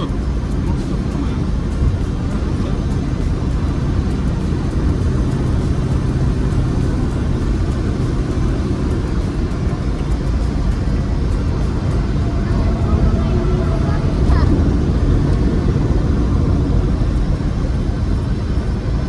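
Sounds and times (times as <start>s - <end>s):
car engine running: 0.0s - 19.0s
road and tyre rumble: 0.0s - 19.0s.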